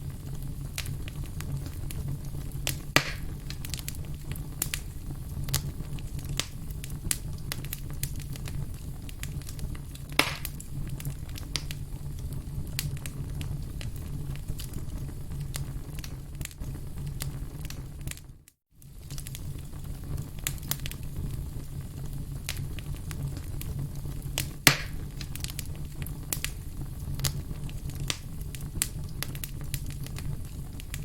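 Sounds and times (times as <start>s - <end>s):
campfire crackling: 0.0s - 18.2s, 18.8s - 31.0s.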